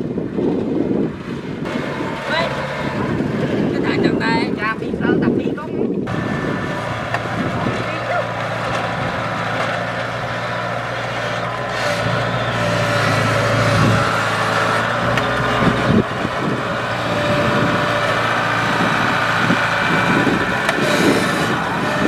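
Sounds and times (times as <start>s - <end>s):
combine harvester running: 0.0s - 4.7s, 6.1s - 22.0s.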